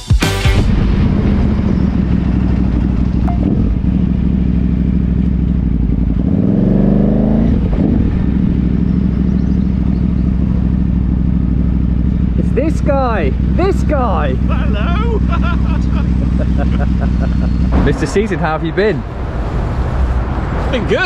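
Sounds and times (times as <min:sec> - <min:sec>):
motorcycle engine revving: 0:00.5 - 0:21.0.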